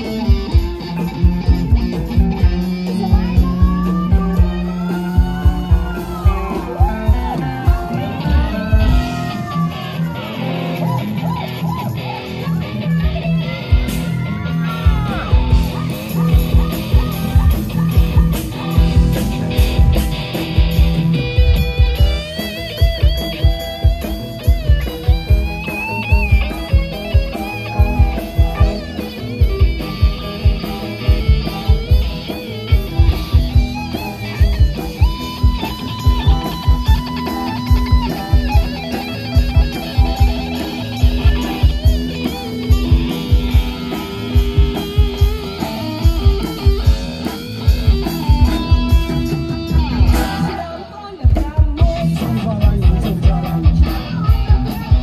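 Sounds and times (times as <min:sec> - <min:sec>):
guitar-led band music: 0:00.0 - 0:55.0
heavy drum and bass beat: 0:00.0 - 0:55.0.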